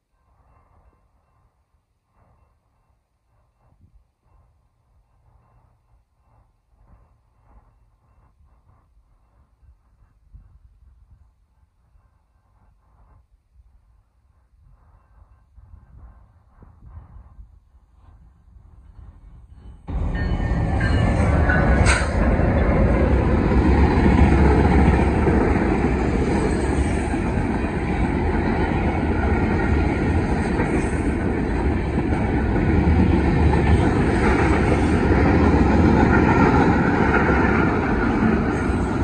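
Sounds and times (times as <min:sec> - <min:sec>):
train wheels rumbling and rattling: 0:00.0 - 0:39.0.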